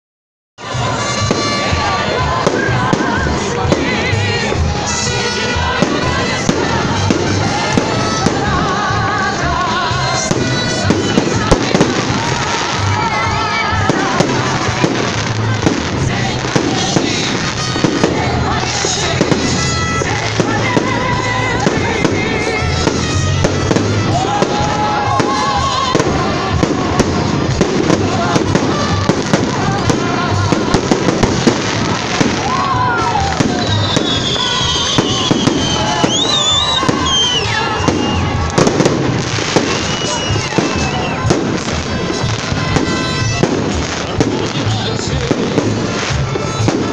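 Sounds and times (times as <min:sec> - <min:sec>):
fireworks bangs: 0:00.6 - 0:46.9
music: 0:00.6 - 0:46.9.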